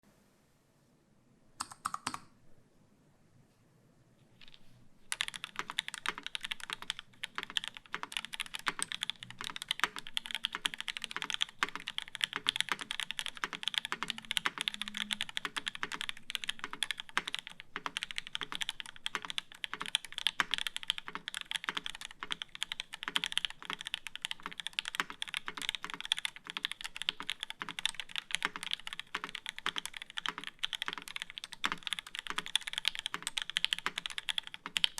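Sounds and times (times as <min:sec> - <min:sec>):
mechanical keyboard typing: 0:01.6 - 0:02.3, 0:04.4 - 0:34.9.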